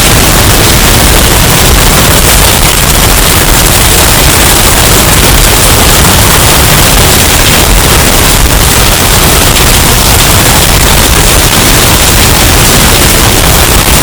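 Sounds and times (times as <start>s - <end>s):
distorted hurricane wind: 0.0s - 14.0s.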